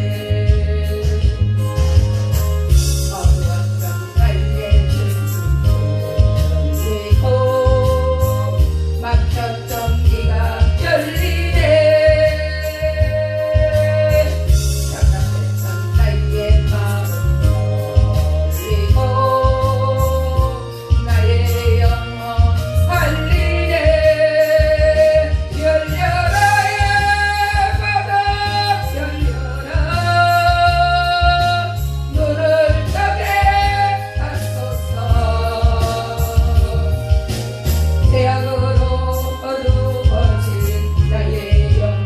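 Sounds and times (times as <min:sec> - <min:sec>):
backing track with pulsing bass: 0:00.0 - 0:42.0
person singing gospel: 0:00.0 - 0:42.0.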